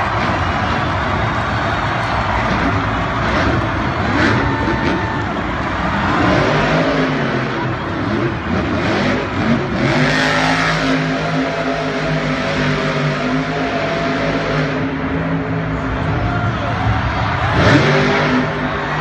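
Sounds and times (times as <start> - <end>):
truck engines revving loudly: 0.0 - 19.0.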